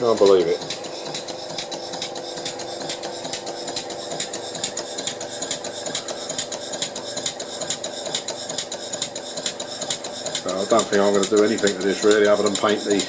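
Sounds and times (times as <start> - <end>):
steady hum: 0.0 - 13.0
steam engine model exhaust puffing: 0.0 - 13.0.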